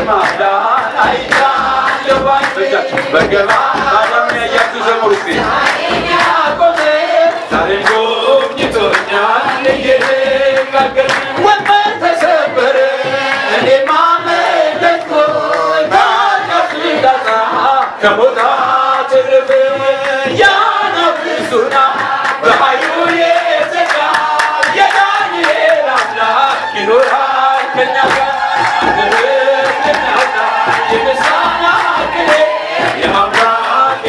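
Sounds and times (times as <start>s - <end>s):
man singing into microphone: 0.0s - 34.0s
men singing in chorus: 0.0s - 34.0s
steady percussive beat: 0.0s - 34.0s.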